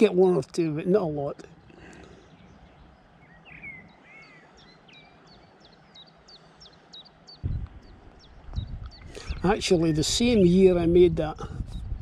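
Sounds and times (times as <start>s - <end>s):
birds calling and chirping: 0.0s - 12.0s
soft steady hiss: 0.0s - 12.0s.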